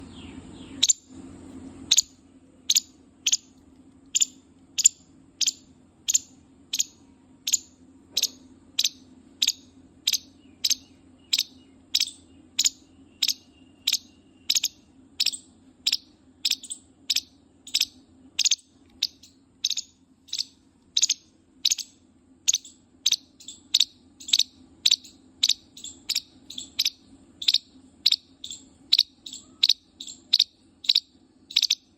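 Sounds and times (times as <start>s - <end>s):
steady low hum: 0.0s - 31.9s
animal high-pitched chirp: 0.3s - 1.1s, 1.9s - 3.5s, 4.1s - 31.9s.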